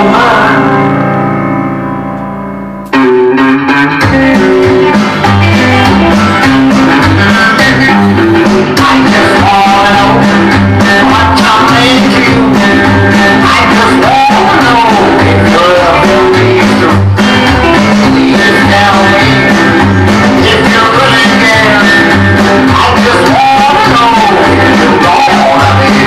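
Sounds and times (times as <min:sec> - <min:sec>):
guitar-led track with steady beat: 0:00.0 - 0:26.0
rockabilly music: 0:00.0 - 0:26.0.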